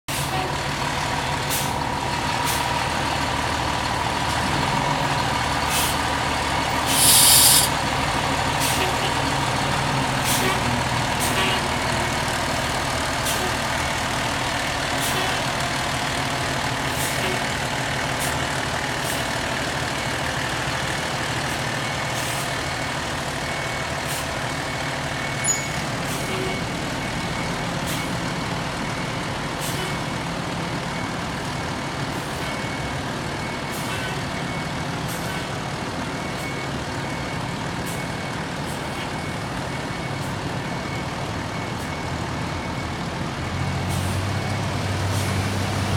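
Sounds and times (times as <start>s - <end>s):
fire truck engine running: 0.1s - 45.9s.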